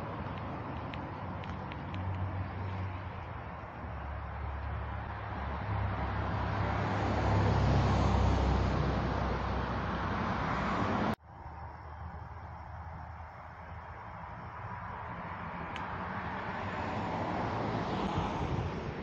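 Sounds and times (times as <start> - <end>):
car passing by: 0.0 - 11.2, 13.6 - 19.0
faint outdoor background: 0.0 - 19.0.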